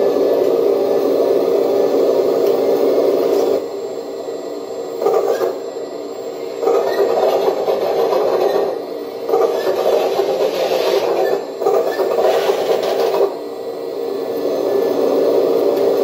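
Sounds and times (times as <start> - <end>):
hydraulic pump buzzing whine: 0.0 - 16.0.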